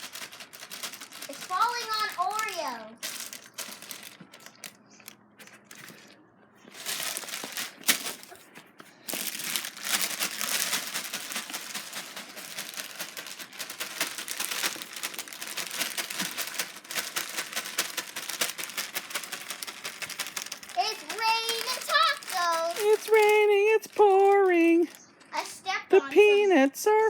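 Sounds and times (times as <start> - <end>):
peanut shells clattering: 0.0 - 6.1, 6.7 - 8.4, 9.1 - 25.0
plastic bag crinkling: 0.0 - 25.1.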